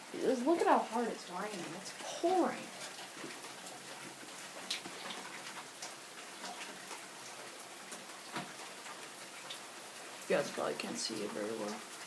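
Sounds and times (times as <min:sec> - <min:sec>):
heavy rain pouring: 0:00.0 - 0:12.0
raindrops ticking nearby: 0:00.0 - 0:12.0.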